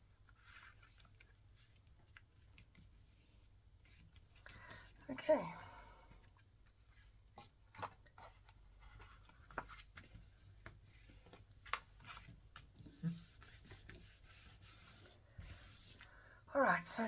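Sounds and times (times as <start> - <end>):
paper rustling: 0.0 - 4.9, 6.4 - 16.1.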